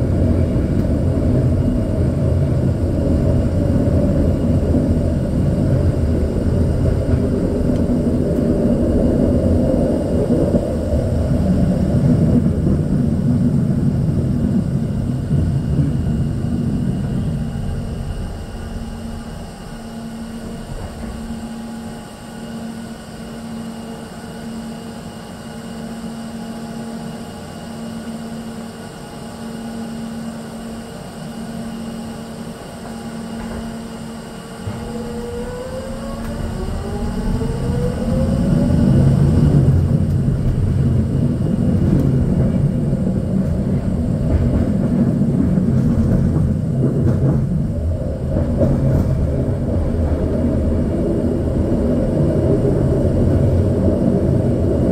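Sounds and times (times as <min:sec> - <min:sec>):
rising motor whine: 0:00.0 - 0:45.8
train car humming: 0:00.0 - 0:54.9
train rumbling along track: 0:00.0 - 0:54.9.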